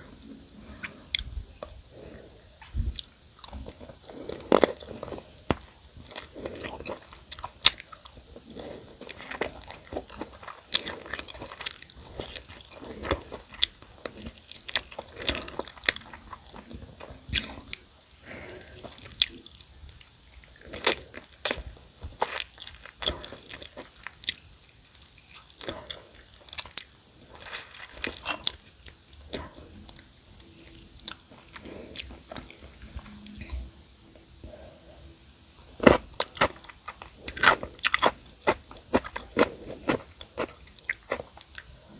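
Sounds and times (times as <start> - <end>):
crunchy chewing of fried chicken: 0.0 - 41.9.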